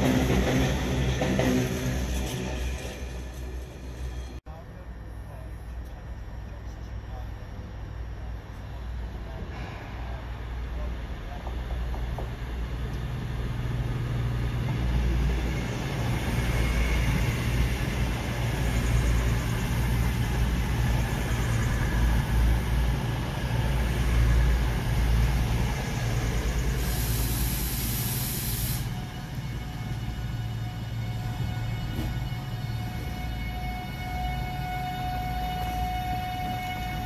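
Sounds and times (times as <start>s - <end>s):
freight train rumbling on track: 0.0s - 37.0s.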